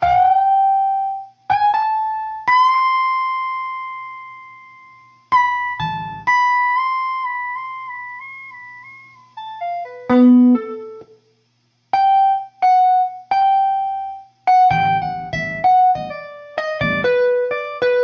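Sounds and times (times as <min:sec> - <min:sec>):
single-note melodic lick: 0:00.0 - 0:04.4, 0:05.4 - 0:11.1, 0:12.0 - 0:18.0.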